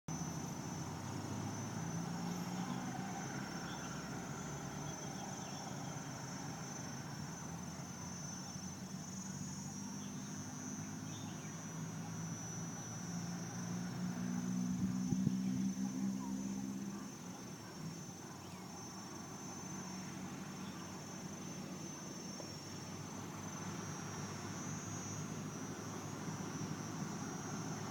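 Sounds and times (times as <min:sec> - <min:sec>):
high-pitched insect chirr: 0:00.1 - 0:27.9.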